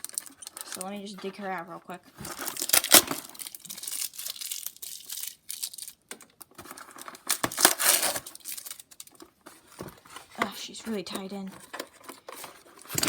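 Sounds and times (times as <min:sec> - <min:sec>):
box packaging crinkling: 0:00.0 - 0:13.0.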